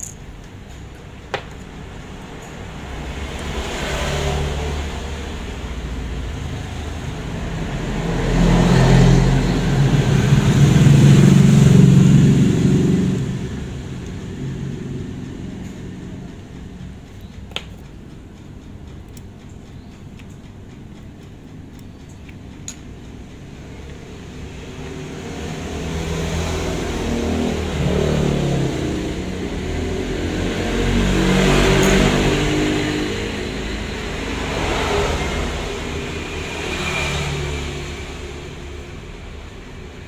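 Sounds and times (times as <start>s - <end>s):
vehicles passing by: 0.0s - 40.0s.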